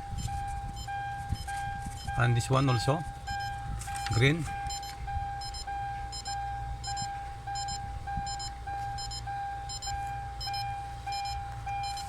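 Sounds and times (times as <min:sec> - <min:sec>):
low steady hum: 0:00.0 - 0:12.0
pulsing electronic warning chime: 0:00.0 - 0:12.0.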